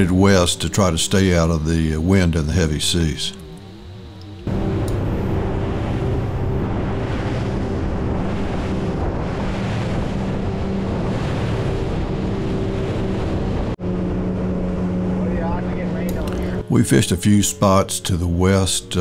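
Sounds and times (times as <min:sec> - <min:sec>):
wind buffeting microphone: 0:00.0 - 0:18.0
outboard engines humming: 0:00.0 - 0:19.0
water rushing past hull: 0:00.0 - 0:19.0.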